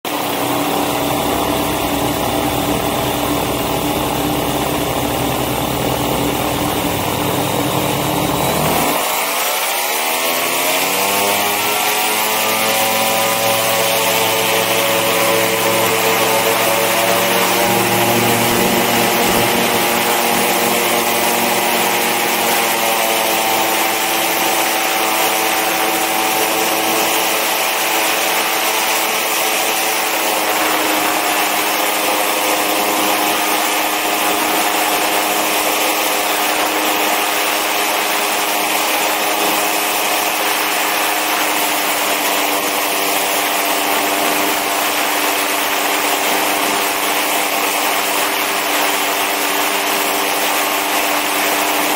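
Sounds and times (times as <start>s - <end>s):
buzzing aircraft engine: 0.1s - 51.9s
propeller wind rushing: 0.1s - 51.9s.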